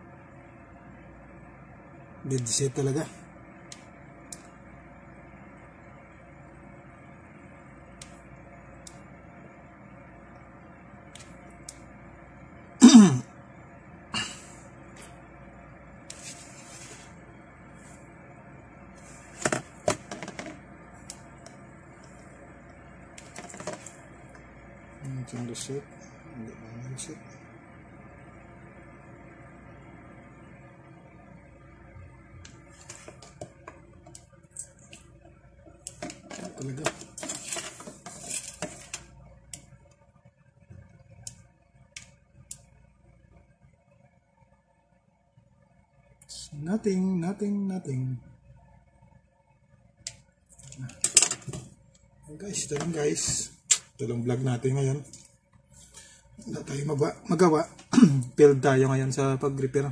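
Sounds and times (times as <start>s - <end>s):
faint steady hiss: 0.0s - 59.9s.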